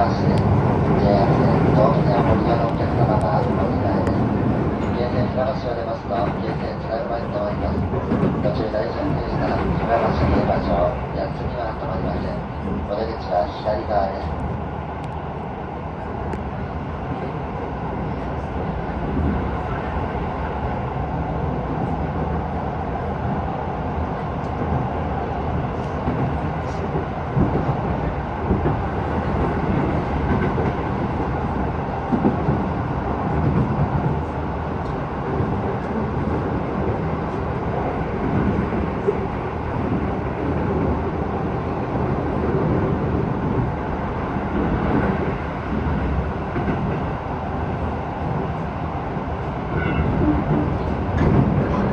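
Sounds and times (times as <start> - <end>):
train wheels rumbling on rails: 0.0 - 51.9.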